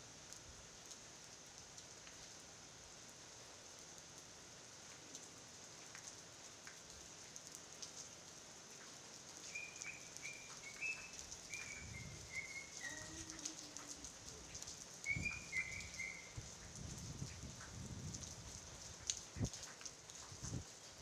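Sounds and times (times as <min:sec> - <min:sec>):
light rain falling: 0:00.0 - 0:21.0.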